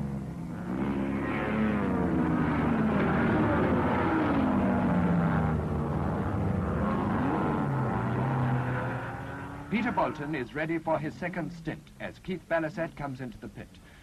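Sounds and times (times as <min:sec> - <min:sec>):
racing car engines passing: 0:00.0 - 0:11.9.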